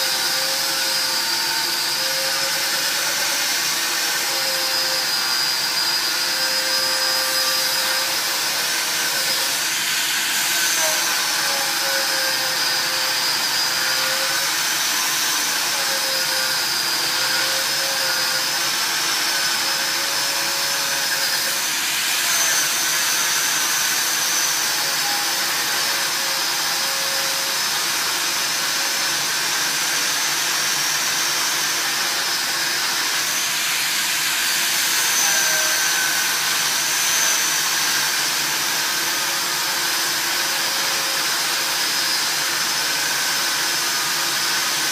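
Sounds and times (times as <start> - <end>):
angle grinder grinding steel: 0.0 - 44.9.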